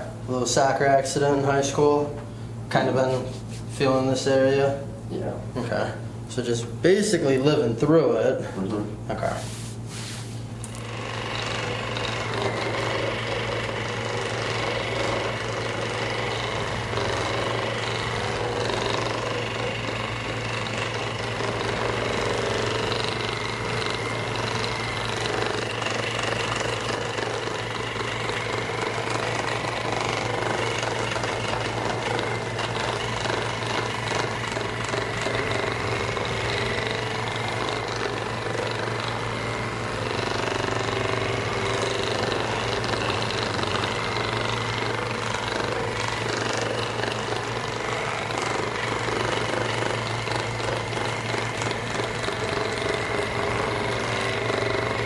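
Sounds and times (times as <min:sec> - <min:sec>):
vibration massager buzzing: 0:00.0 - 0:55.0.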